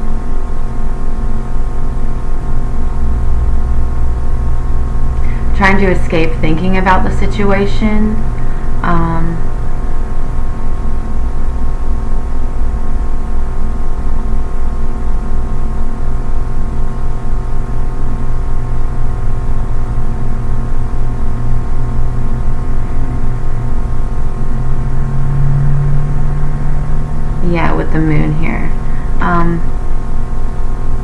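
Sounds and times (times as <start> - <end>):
ambient drone of held tones: 0.0 - 31.0
pulsing low rumble: 0.0 - 31.0.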